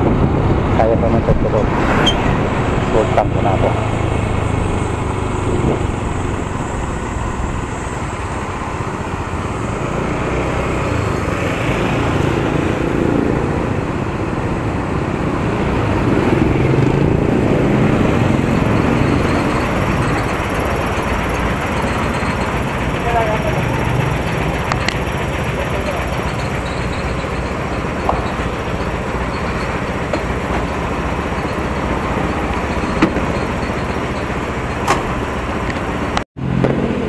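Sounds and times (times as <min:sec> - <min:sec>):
road noise: 0:00.0 - 0:37.0
motorcycle engine running: 0:02.5 - 0:13.4, 0:15.8 - 0:34.6.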